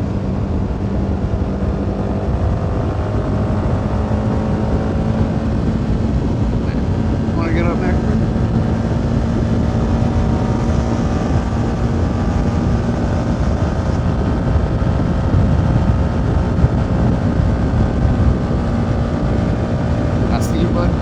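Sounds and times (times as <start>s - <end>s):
motorcycle engine cruising: 0.0s - 21.0s
wind buffeting microphone: 0.0s - 21.0s.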